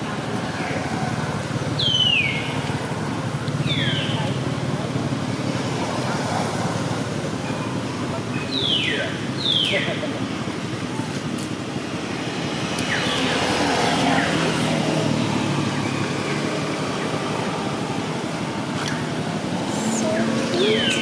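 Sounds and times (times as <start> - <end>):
road traffic noise: 0.0 - 21.0
vehicle engine hum: 0.0 - 21.0.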